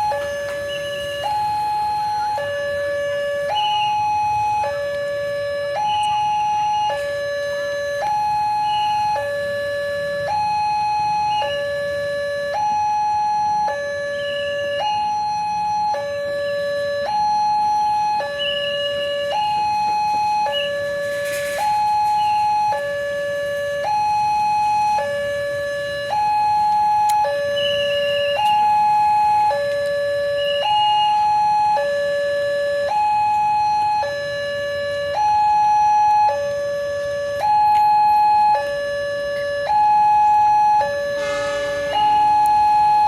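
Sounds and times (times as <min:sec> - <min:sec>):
level crossing two-tone alarm: 0:00.0 - 0:43.0.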